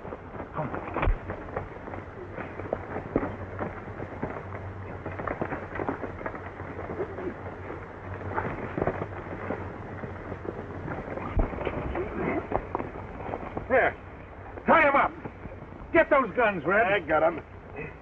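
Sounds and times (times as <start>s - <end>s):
scuffling: 0.0s - 18.0s
soundtrack hum and crackle: 0.0s - 18.0s.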